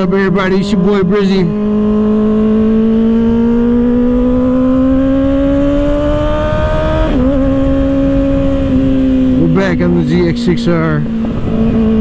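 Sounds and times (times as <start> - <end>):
motorcycle engine revving: 0.0 - 12.0
wind rumble on microphone: 0.0 - 12.0.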